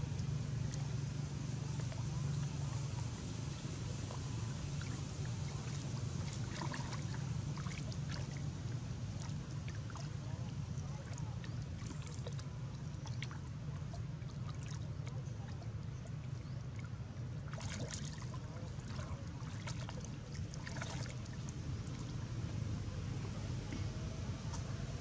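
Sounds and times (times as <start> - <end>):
steady low rumble: 0.0 - 25.0
water splashing and lapping: 0.0 - 25.0.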